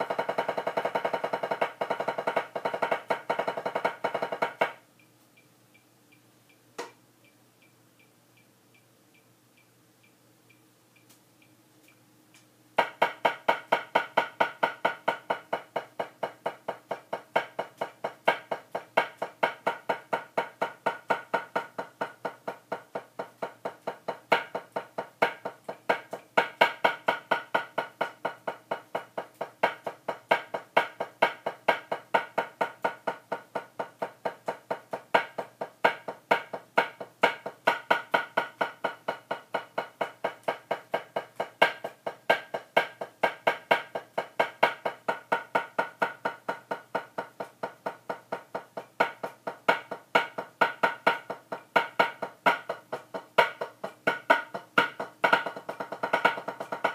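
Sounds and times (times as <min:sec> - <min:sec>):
drumsticks striking a practice pad: 0:00.0 - 0:04.8, 0:12.8 - 0:56.9.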